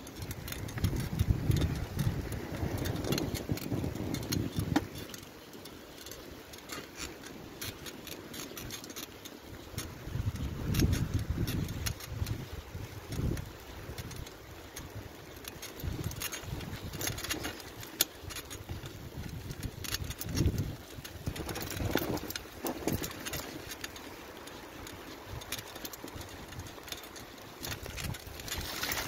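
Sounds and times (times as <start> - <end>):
bicycle tyres crunching snow: 0.0 - 29.0
bike clicks and rattles: 0.0 - 29.0.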